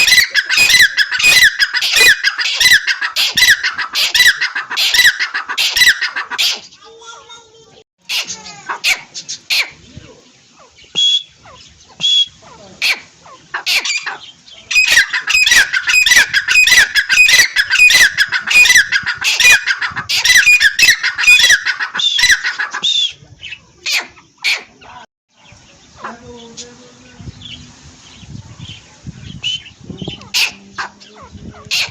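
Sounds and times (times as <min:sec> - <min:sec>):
francolins calling: 0:00.0 - 0:07.0, 0:08.0 - 0:31.9.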